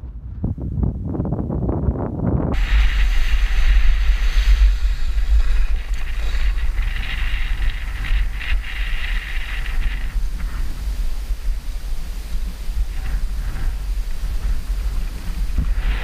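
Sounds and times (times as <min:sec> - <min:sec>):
low rumble: 0:00.0 - 0:16.0
wind buffeting microphone: 0:00.0 - 0:16.0
skis sliding over snow: 0:02.6 - 0:16.0.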